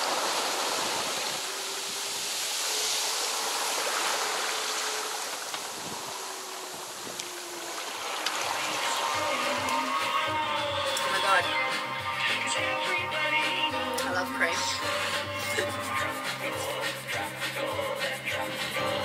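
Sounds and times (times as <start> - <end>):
water rushing along a hull: 0.0 - 19.0.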